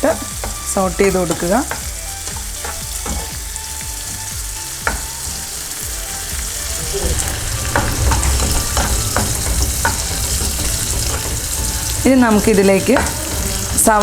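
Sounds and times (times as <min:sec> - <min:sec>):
spatula scraping a pan: 0:00.0 - 0:14.0
vegetables sizzling in hot oil: 0:00.0 - 0:14.0.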